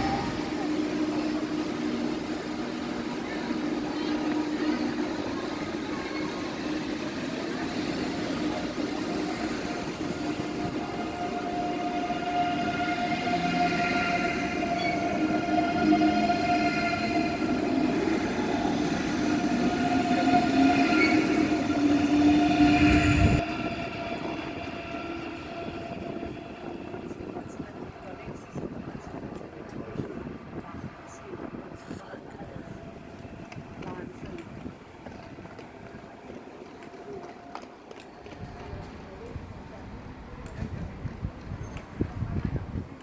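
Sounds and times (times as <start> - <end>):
train carriages rushing past: 0.0 - 43.0.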